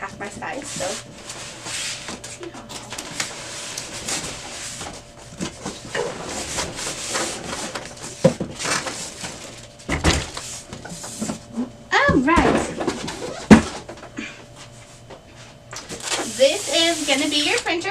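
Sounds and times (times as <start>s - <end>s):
packaging rustling and scraping: 0.4s - 11.7s, 12.5s - 14.0s, 14.6s - 17.9s.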